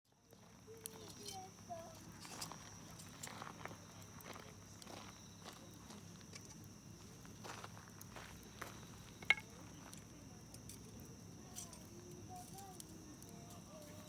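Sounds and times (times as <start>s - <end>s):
campfire crackling: 0.1s - 14.0s.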